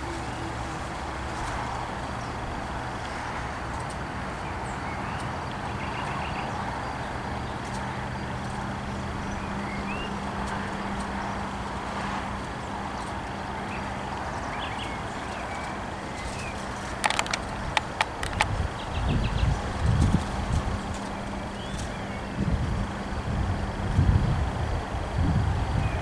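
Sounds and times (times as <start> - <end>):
low mechanical hum: 0.0 - 26.0
outdoor background noise: 0.0 - 26.0.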